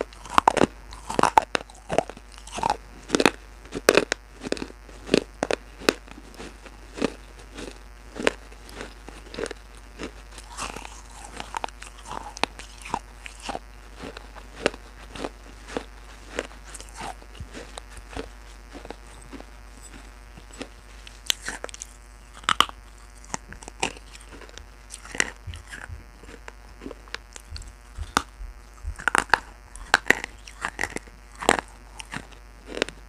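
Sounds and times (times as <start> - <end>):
crisp crunching and cracking: 0.0 - 33.0
steady low hum: 0.0 - 33.0.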